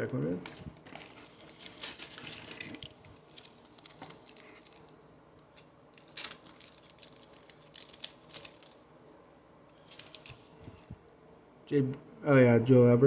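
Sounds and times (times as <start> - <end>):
wrapper crinkling and cards rustling: 0.3 - 11.0.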